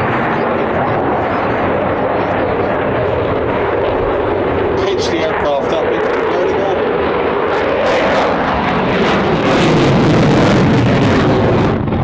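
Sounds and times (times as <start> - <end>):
loud crackling jet engines: 0.0 - 12.0.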